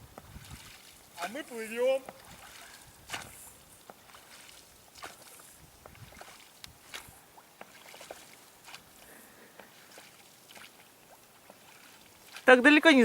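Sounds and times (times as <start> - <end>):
oars splashing water: 0.0 - 13.0.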